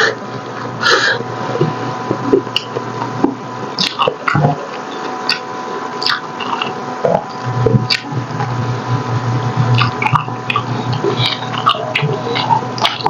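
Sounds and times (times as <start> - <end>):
low hum: 0.0 - 13.0
wet chewing: 0.9 - 8.5, 9.6 - 13.0.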